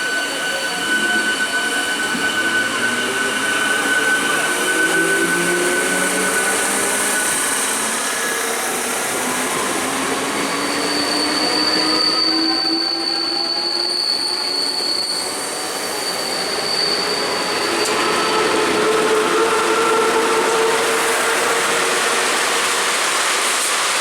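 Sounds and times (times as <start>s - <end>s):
train wheel squeal: 0.0s - 24.0s.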